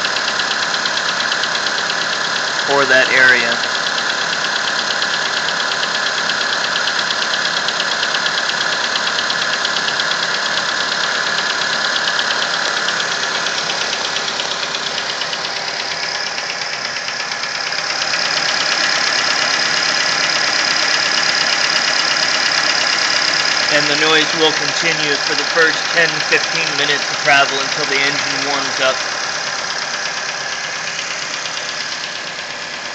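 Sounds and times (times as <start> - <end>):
car engine running: 0.0 - 32.9
fast engine tapping: 0.0 - 32.9.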